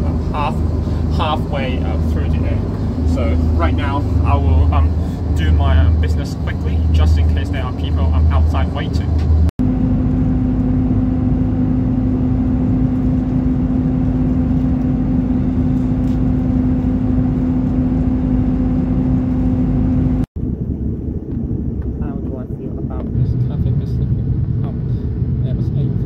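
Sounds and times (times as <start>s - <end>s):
airliner cabin drone: 0.0s - 26.0s
rough rumble: 0.0s - 26.0s.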